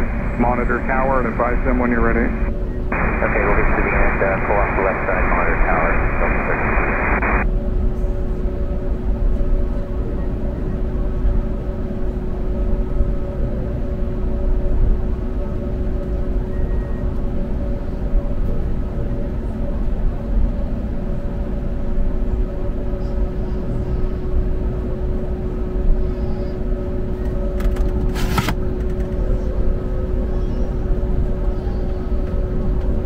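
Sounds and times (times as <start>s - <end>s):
aircraft cabin rumble and hum: 0.0s - 7.5s, 8.4s - 33.0s.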